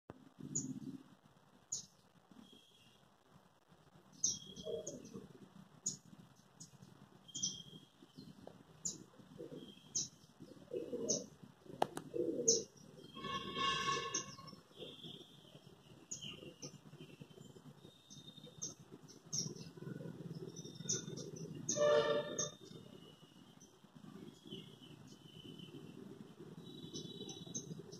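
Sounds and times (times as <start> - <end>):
small birds chirping: 0.2 - 27.9.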